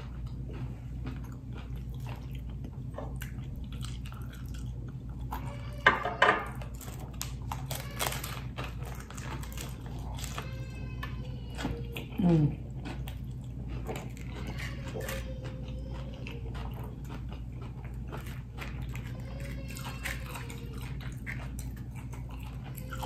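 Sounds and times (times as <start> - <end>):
chewing crunchy taco: 0.0 - 5.8, 6.5 - 23.0.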